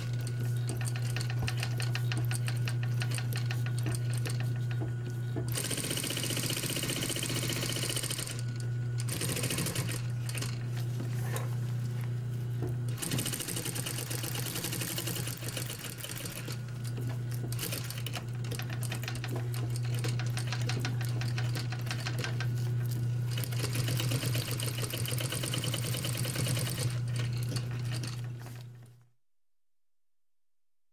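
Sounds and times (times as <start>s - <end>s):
sewing machine stitching: 0.0s - 11.5s, 12.9s - 29.0s.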